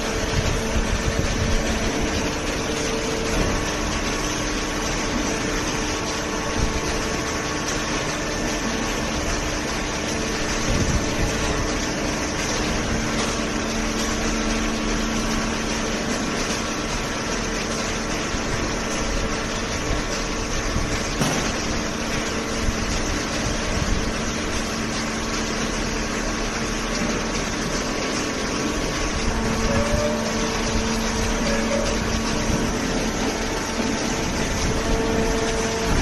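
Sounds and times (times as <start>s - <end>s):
hydraulic pump humming: 0.0s - 36.0s.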